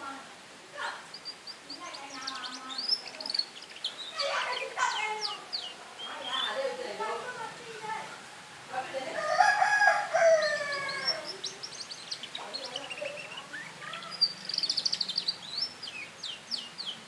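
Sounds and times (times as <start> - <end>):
canary chirps and trills: 0.8 - 17.0.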